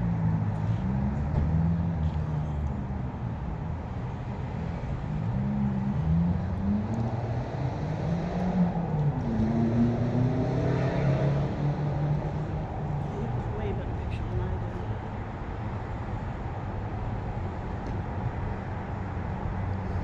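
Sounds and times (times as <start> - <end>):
car engines passing: 0.0 - 20.0.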